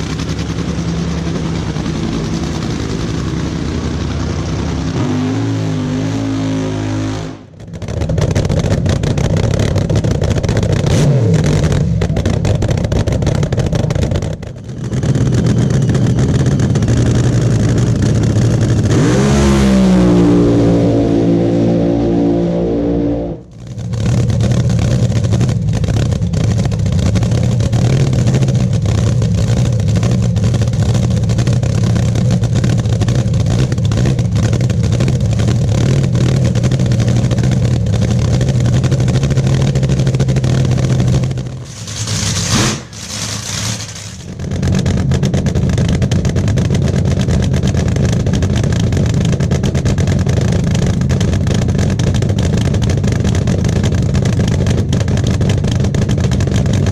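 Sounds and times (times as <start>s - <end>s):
dragster engine cackling: 0.0s - 56.8s.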